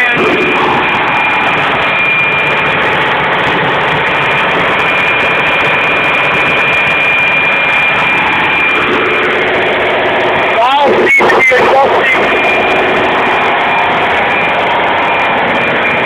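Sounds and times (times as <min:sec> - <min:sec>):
diesel generator engine droning: 0:00.0 - 0:16.0
thin high whine: 0:00.0 - 0:16.0.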